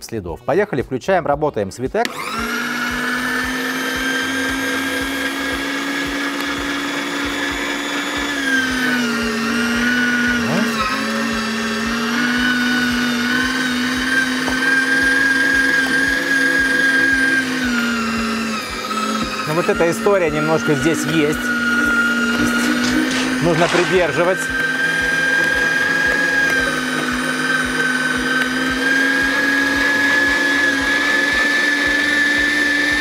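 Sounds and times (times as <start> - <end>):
electric meat grinder whining: 2.0 - 33.0.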